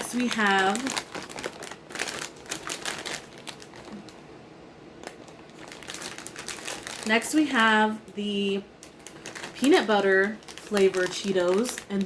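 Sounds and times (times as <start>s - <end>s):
plastic bag crinkling: 0.0s - 4.2s, 5.0s - 12.0s.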